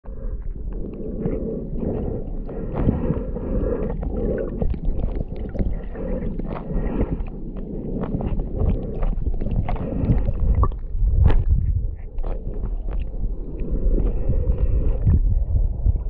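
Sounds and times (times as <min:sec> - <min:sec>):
muffled underwater water churning: 0:00.0 - 0:16.0
small underwater clicks and crackles: 0:00.1 - 0:16.0.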